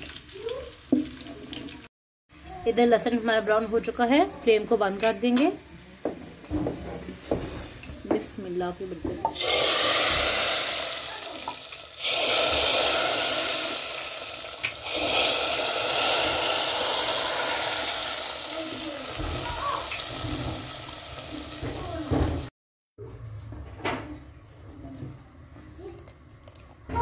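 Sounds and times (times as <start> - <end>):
hot oil sizzling in liquid: 0.0 - 22.5.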